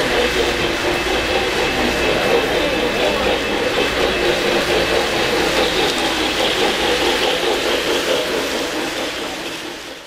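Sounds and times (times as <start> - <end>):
model train passing close: 0.0 - 10.0
model train wheels and motors: 0.0 - 10.0.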